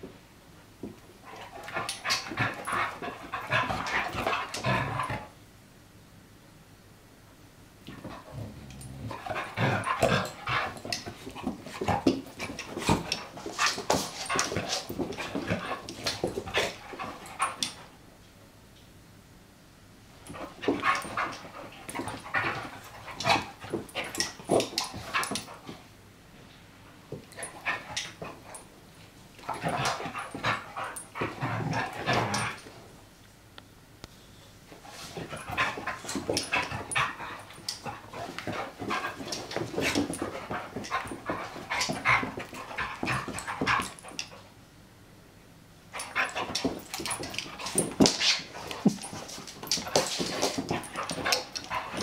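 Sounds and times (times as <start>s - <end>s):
dogs play-fighting: 0.8s - 5.4s, 7.8s - 18.0s, 20.2s - 25.9s, 26.9s - 33.0s, 34.7s - 44.6s, 45.9s - 52.0s.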